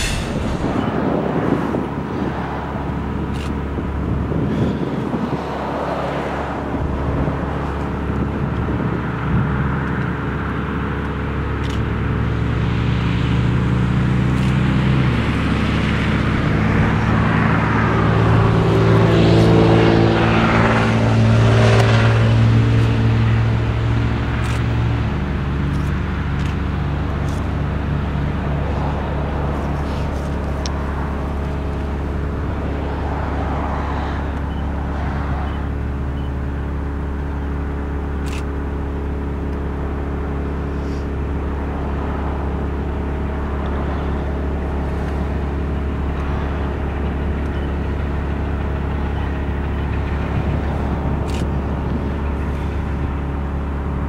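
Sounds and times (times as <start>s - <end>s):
diesel locomotive engines throbbing: 0.0s - 54.0s.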